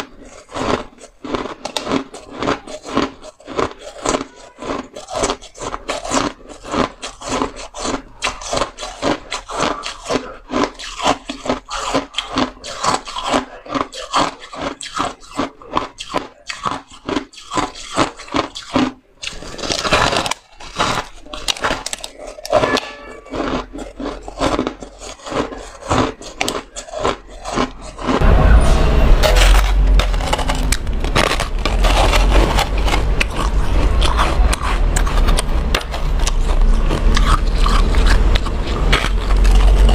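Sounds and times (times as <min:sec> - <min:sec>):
grinding bite into ice: 0:00.0 - 0:28.2, 0:29.2 - 0:39.9
chewing crunchy ice: 0:00.0 - 0:28.3, 0:29.2 - 0:39.9.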